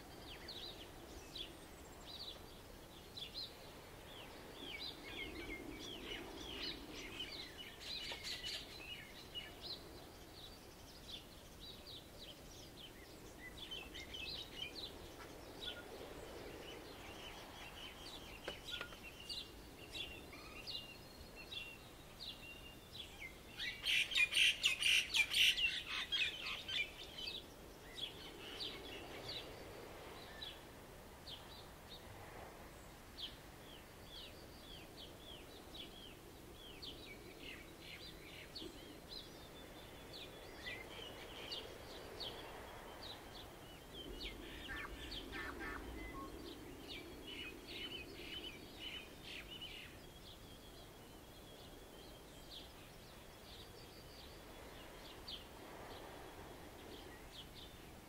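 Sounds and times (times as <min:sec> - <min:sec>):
birds chirping: 0:00.1 - 0:30.6, 0:32.8 - 0:58.0.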